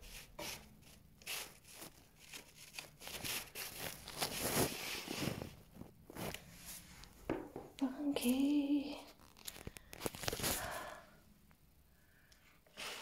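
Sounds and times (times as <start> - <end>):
rustling and crinkling handling noises: 0.0 - 11.0.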